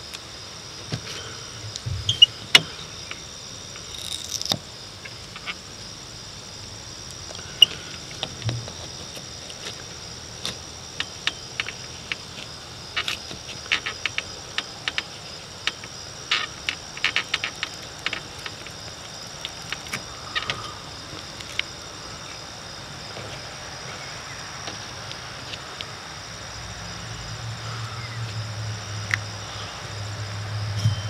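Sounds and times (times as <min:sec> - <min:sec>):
insect chirring: 0:00.0 - 0:31.0.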